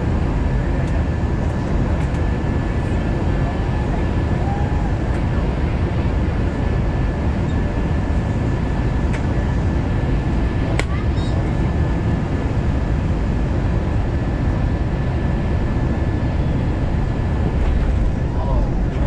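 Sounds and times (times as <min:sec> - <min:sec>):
airliner engines and wheels rumbling: 0:00.0 - 0:19.0.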